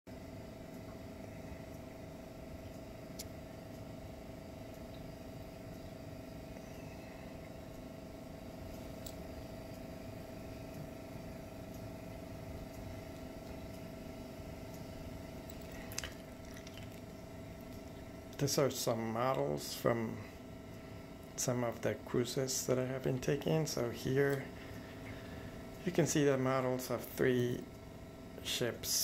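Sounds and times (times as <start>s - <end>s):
background hum: 0.1s - 29.0s
constant mid-pitched tone: 0.1s - 29.0s.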